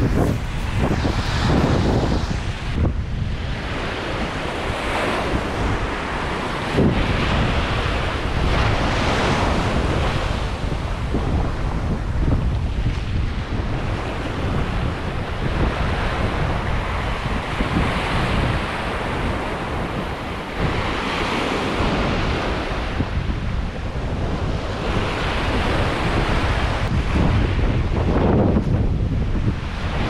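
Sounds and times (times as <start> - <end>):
waves breaking on beach: 0.0 - 30.0
wind buffeting microphone: 0.0 - 30.0.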